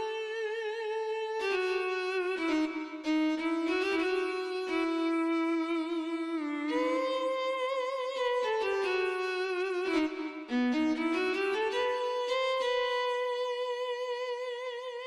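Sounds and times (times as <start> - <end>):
solo violin melody: 0.0 - 15.0.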